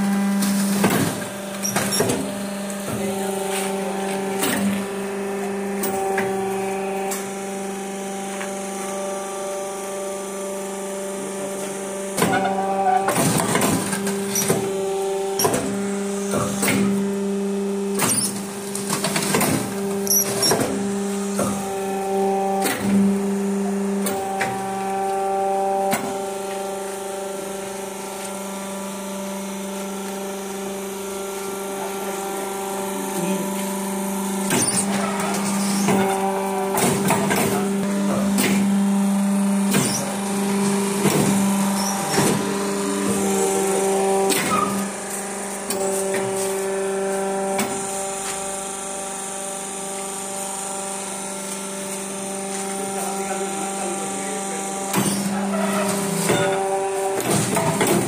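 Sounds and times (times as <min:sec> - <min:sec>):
motor and pump humming: 0:00.0 - 0:58.0.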